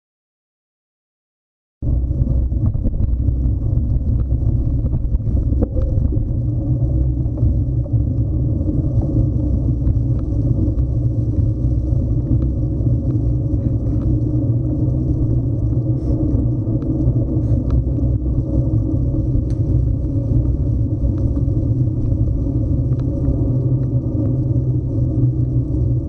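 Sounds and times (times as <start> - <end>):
trail vibration rumble: 1.8 - 26.0
wind on microphone: 1.8 - 26.0.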